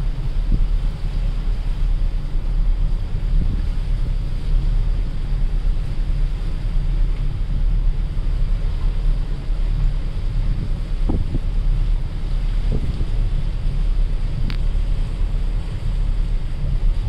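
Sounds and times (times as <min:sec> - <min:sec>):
ship engine low rumble: 0:00.0 - 0:17.0
wind buffeting microphone: 0:00.0 - 0:17.0.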